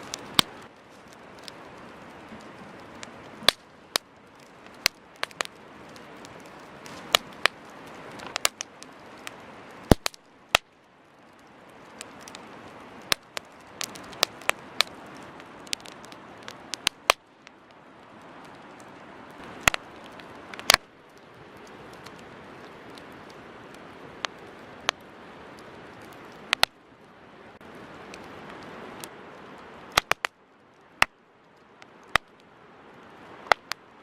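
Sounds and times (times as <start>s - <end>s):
campfire crackles and pops: 0.0s - 34.0s
campfire hissing: 0.0s - 34.0s.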